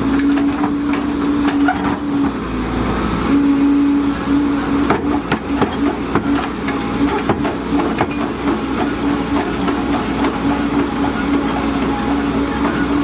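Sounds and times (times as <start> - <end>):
excavator diesel engine running: 0.0 - 13.0
sharp knocks and clanks: 0.1 - 2.4, 4.8 - 13.0.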